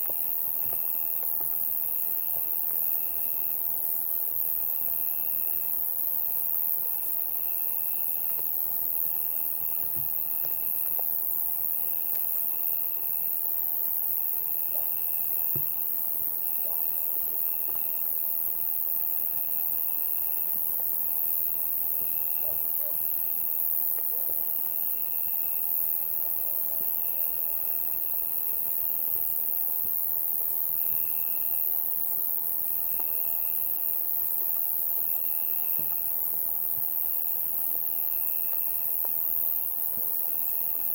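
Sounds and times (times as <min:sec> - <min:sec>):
cricket trilling: 0:00.0 - 0:40.9
high-pitched insect chorus: 0:00.0 - 0:40.9.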